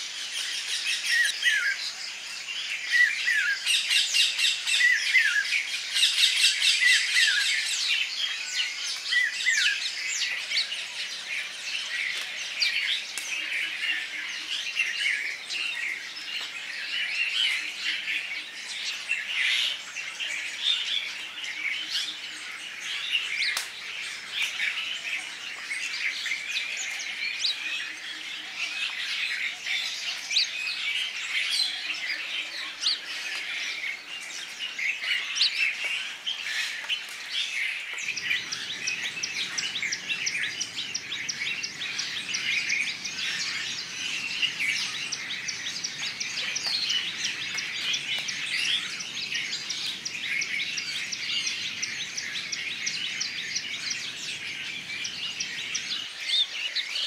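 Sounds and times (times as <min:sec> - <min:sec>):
songbirds chorus: 0:00.0 - 0:57.0.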